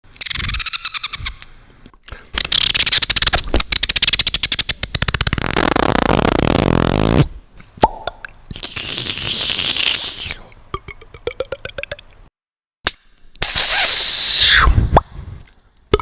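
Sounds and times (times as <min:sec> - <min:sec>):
beatboxer mouth clicks: 0:02.0 - 0:12.0, 0:12.9 - 0:16.0.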